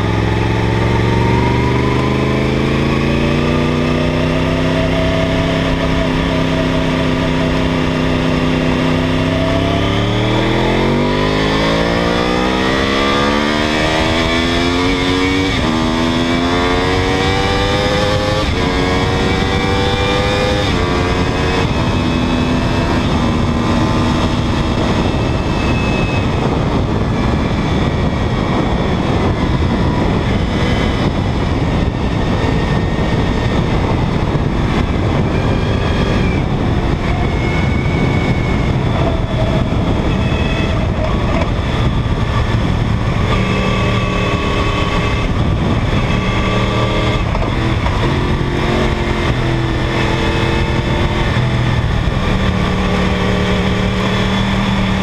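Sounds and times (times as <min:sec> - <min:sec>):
motorcycle engine revving: 0:00.0 - 0:55.0
wind rushing over microphone: 0:00.0 - 0:55.0.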